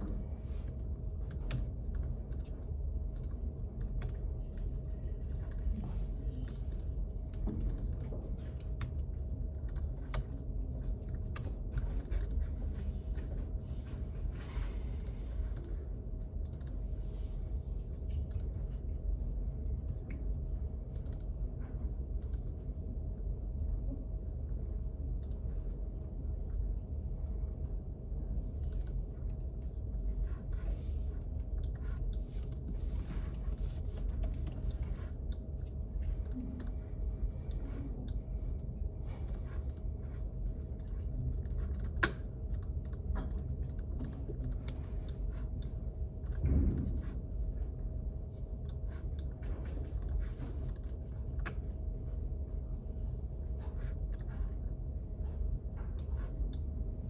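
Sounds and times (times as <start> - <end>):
low room hum with faint tone: 0.0 - 57.0.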